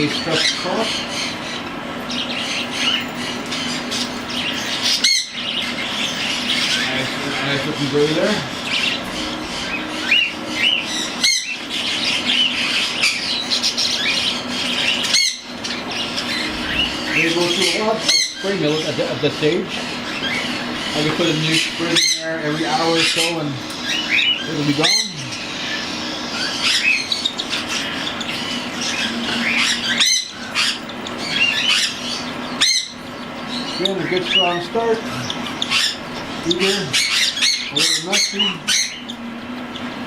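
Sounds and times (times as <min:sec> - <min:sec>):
cockatiel chicks squawking: 0:00.0 - 0:40.0.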